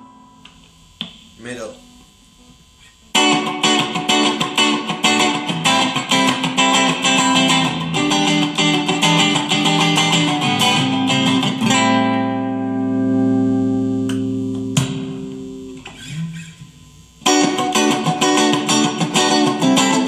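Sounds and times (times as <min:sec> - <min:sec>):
clean electric guitar run: 0:00.0 - 0:20.0.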